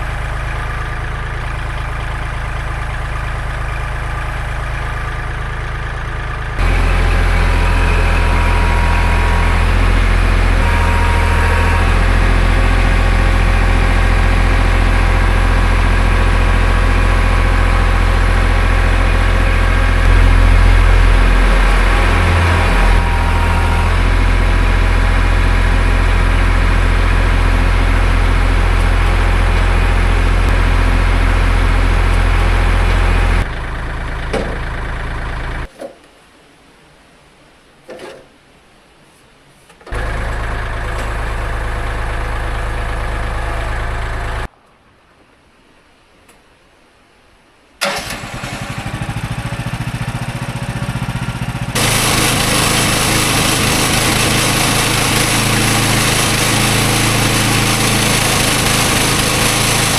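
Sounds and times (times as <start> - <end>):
engine running: 0.0 - 35.7, 39.9 - 44.5, 47.8 - 59.9.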